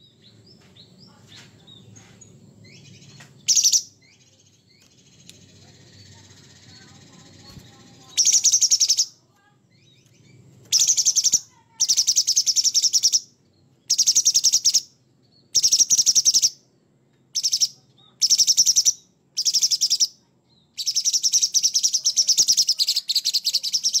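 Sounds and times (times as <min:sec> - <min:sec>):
bird singing harsh rattling song: 0:00.0 - 0:24.0.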